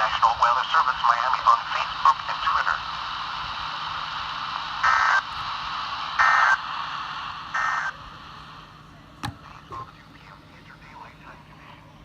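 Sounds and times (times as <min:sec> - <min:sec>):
radio hiss: 0:00.0 - 0:11.9.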